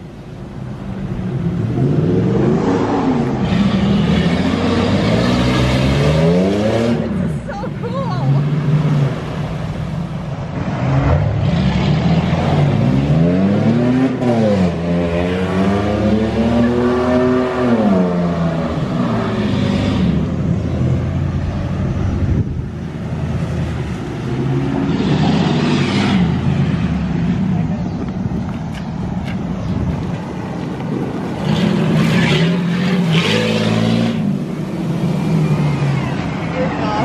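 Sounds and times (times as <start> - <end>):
vehicle engines revving: 0.0 - 37.0.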